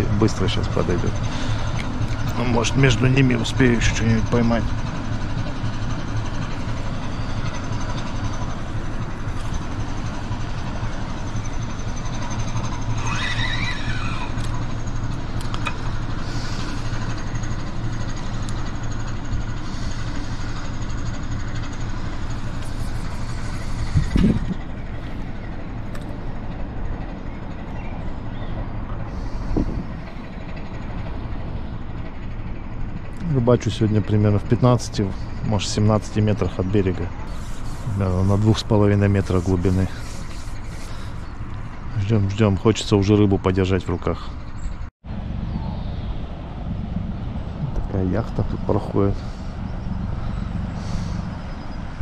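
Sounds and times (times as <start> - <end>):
motorboat engine humming: 0.0 - 52.0.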